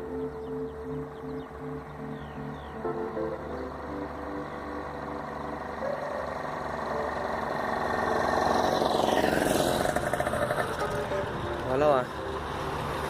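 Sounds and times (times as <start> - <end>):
vehicle passing by: 1.6 - 13.0.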